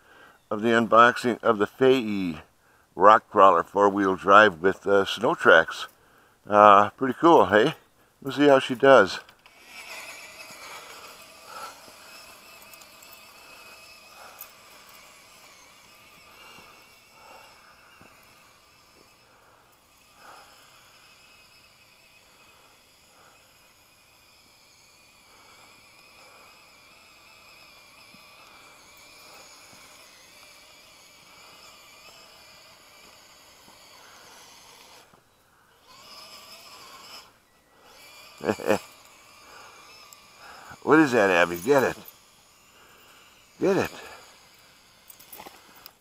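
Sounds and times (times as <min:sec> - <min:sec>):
electric motor and gears whine: 0:03.0 - 0:46.0.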